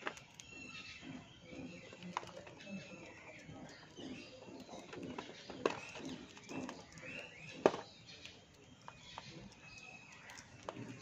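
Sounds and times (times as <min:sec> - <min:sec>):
budgerigars chattering and chirping: 0:00.1 - 0:11.0.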